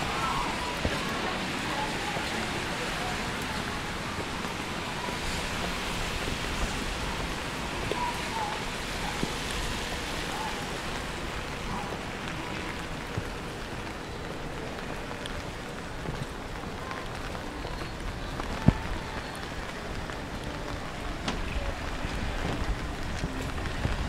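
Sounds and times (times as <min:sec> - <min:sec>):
rain on wet pavement: 0:00.0 - 0:24.0.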